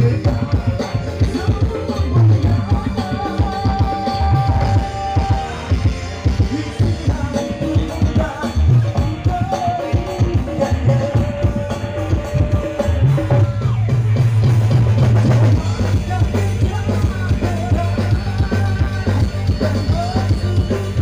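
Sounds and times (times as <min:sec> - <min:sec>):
man singing: 0:00.0 - 0:14.0, 0:15.2 - 0:21.0
electric bass: 0:00.0 - 0:21.0
hand drums: 0:00.0 - 0:21.0
keyboard: 0:00.0 - 0:21.0
steady drum beat: 0:00.0 - 0:21.0.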